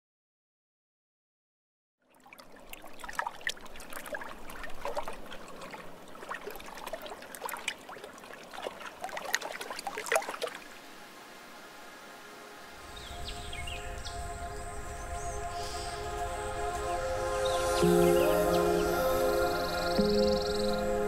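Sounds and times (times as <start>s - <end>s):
water trickling and dripping: 2.0s - 21.0s.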